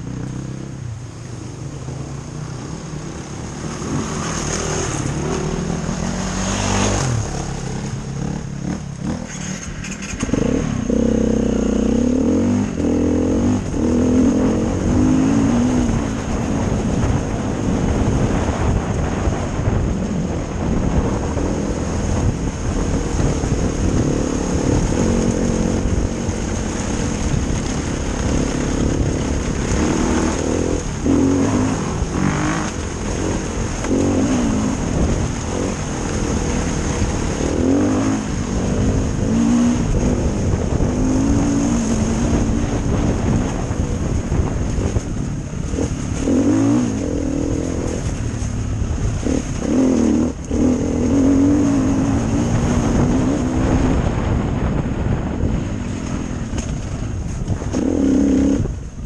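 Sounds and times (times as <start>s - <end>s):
constant rushing noise: 0.0s - 59.0s
dirt bike engine revving: 3.0s - 19.8s, 20.5s - 45.0s, 45.6s - 48.2s, 49.0s - 54.3s, 57.6s - 58.7s.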